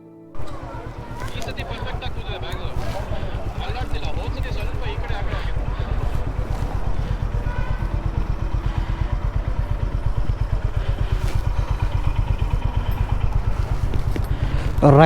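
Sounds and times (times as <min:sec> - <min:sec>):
motorcycle engine idling: 0:00.4 - 0:15.0.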